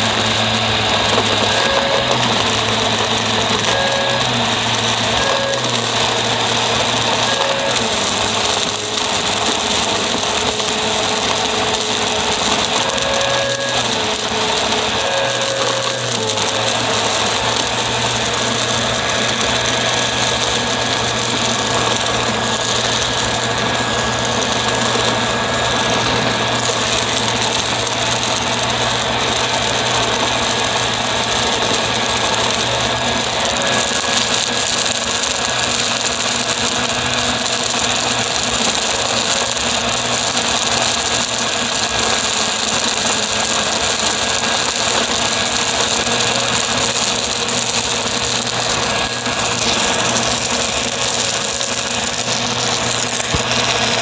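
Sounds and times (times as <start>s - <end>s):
vacuum cleaner whirring: 0.0s - 54.0s.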